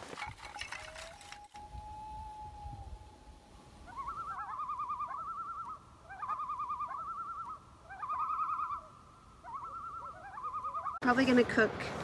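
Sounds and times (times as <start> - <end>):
bird calling with trill: 0.5 - 11.0.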